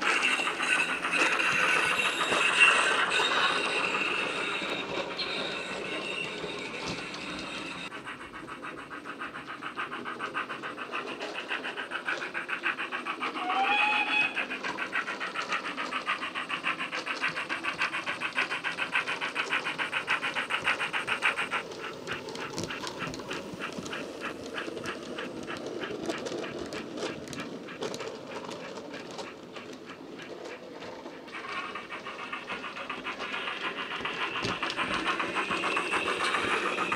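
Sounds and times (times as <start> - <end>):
steam locomotive exhaust beat: 0.0 - 36.9.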